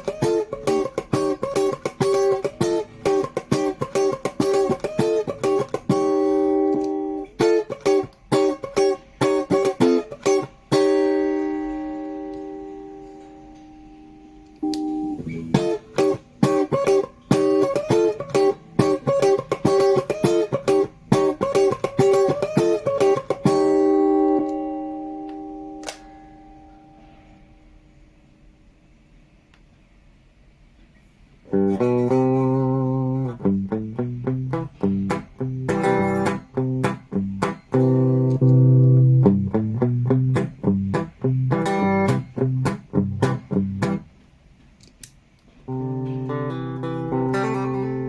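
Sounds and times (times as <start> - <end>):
electric guitar: 0.0 - 27.0, 31.5 - 44.1, 45.6 - 48.0.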